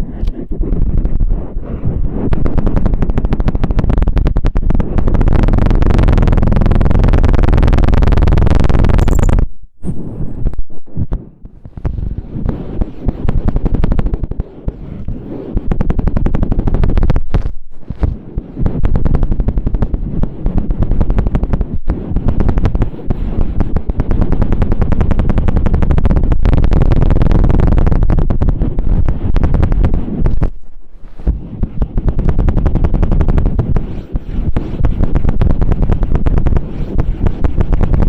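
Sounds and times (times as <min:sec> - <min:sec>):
stick scraping microphone: 0:00.0 - 0:38.0.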